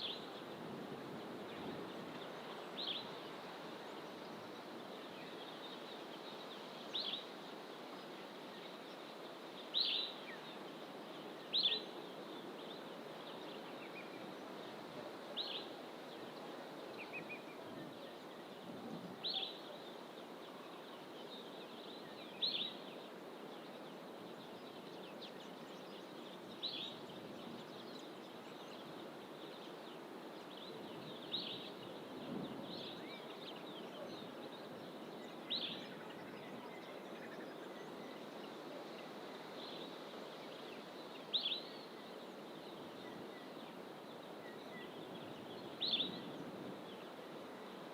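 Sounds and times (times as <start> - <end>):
steady background hiss: 0.0 - 47.9.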